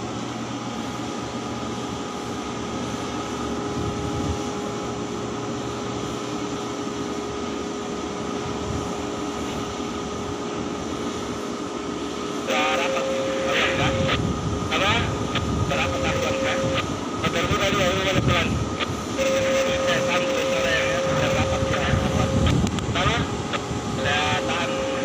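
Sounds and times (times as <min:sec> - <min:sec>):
constant high whine: 0:00.0 - 0:25.0
diesel engine drone: 0:00.0 - 0:25.0.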